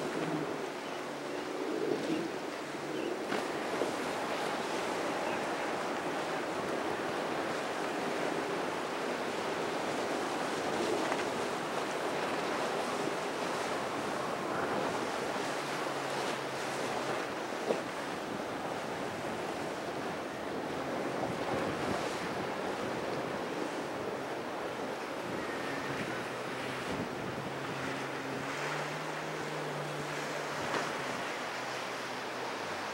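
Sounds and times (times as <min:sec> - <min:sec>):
choppy water and breaking wakes: 0:00.0 - 0:32.9
wind buffeting microphone: 0:01.5 - 0:32.9.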